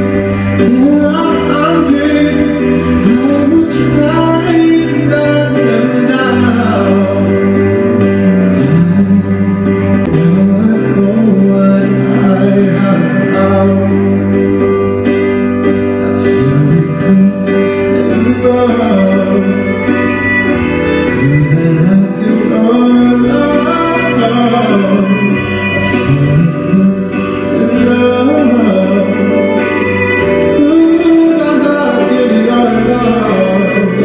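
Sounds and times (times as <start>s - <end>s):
man singing: 0.0s - 14.5s, 15.7s - 34.0s
electric guitar: 0.0s - 34.0s
keyboard: 0.0s - 34.0s
low bass notes: 0.0s - 34.0s.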